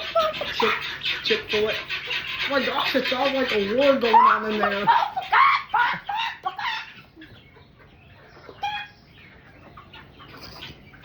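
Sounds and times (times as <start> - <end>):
chicken clucking: 0.0 - 11.0.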